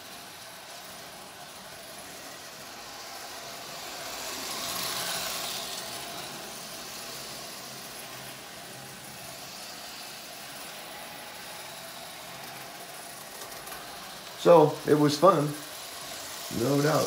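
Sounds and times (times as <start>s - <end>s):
small electric motor whirring: 0.0s - 17.0s.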